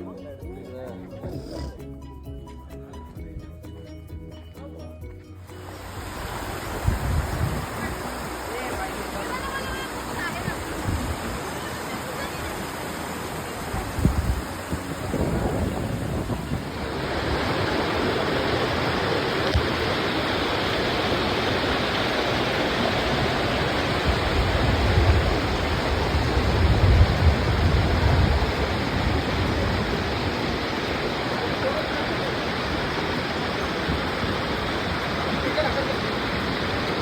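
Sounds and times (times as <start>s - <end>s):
waterfall rushing: 5.4s - 37.0s.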